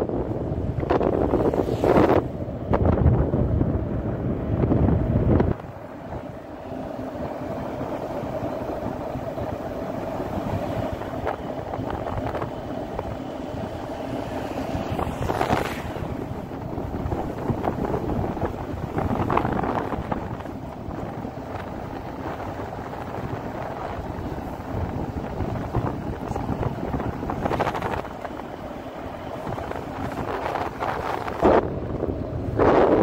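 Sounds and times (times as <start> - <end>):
vehicle engine and road noise: 0.0 - 33.0
wind buffeting microphone: 0.0 - 33.0.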